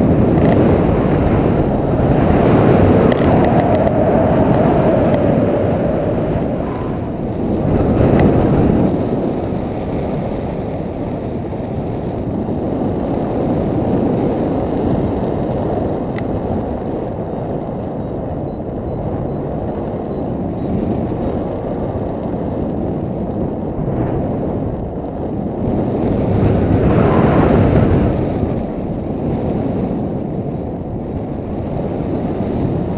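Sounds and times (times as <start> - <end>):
wind noise rumble: 0.0 - 32.9.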